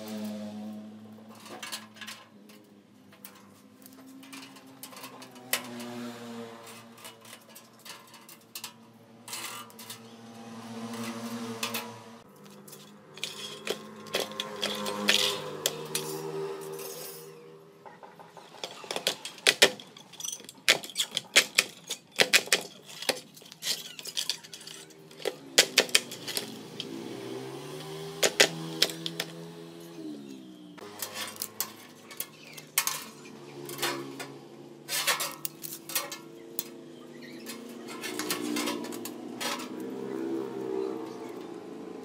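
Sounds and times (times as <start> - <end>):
chain-link mesh clinking on metal: 1.3 - 10.2, 10.9 - 17.4, 18.6 - 27.1, 30.8 - 41.6.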